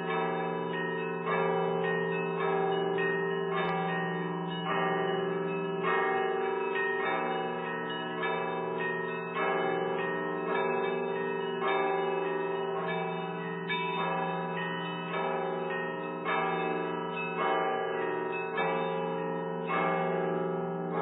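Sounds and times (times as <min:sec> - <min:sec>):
church bells change ringing: 0:00.0 - 0:21.0.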